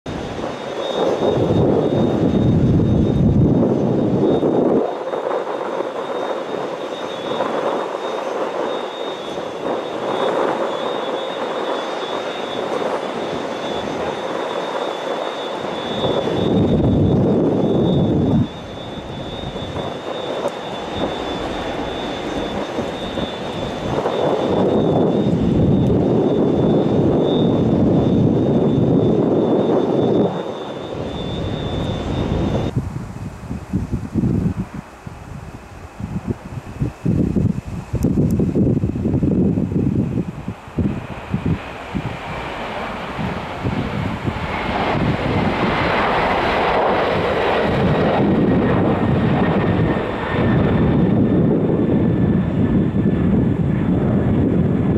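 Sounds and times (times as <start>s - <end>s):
high jet engine whine: 0.0s - 54.9s
jet engine rumble: 0.0s - 54.9s.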